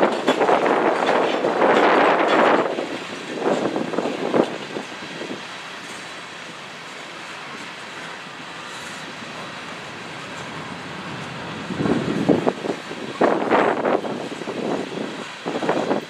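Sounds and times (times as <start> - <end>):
steel train wheels rolling on rails: 0.0 - 16.0.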